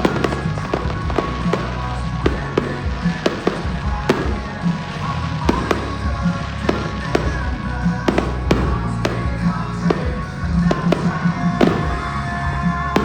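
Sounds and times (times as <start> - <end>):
fireworks banging: 0.0 - 13.0
music: 0.0 - 13.0.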